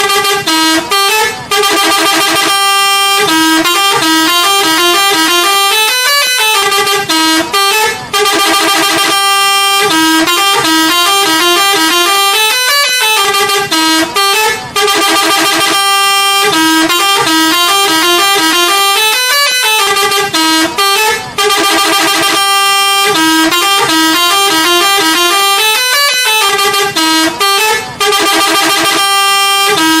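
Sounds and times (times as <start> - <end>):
multi-tone air horn tune: 0.0 - 30.0.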